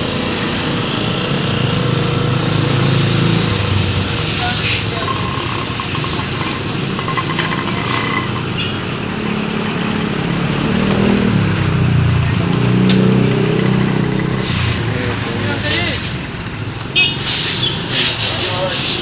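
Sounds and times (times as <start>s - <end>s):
motorcycle engine running: 0.0s - 17.1s.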